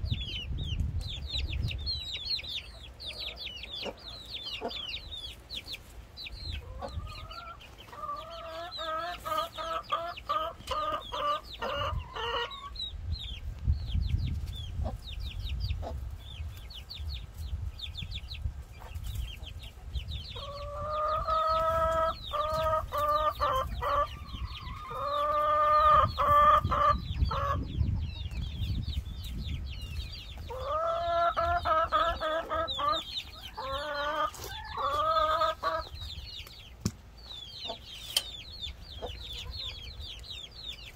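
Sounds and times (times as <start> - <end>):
chickens clucking: 0.0 - 40.9
high peeping: 0.0 - 40.9.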